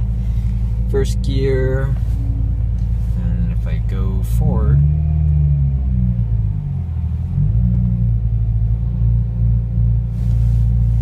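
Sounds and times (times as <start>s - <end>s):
car engine low pulsing rumble: 0.0s - 11.0s.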